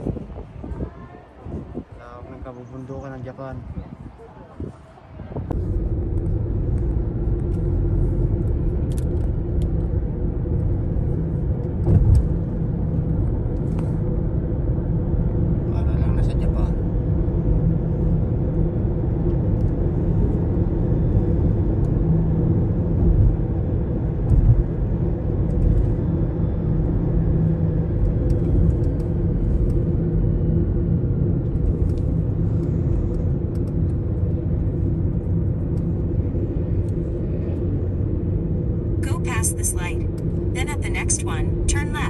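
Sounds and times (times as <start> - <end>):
vehicle road and engine rumble: 0.0 - 42.0.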